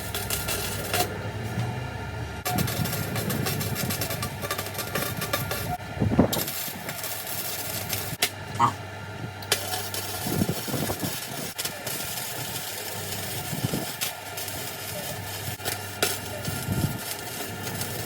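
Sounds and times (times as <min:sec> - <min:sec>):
sharp welding pops: 0:00.0 - 0:01.1, 0:02.4 - 0:08.7, 0:09.4 - 0:18.0
arc welding crackle: 0:00.0 - 0:01.7, 0:02.4 - 0:08.7, 0:09.3 - 0:18.0
low welder hum: 0:00.0 - 0:18.0.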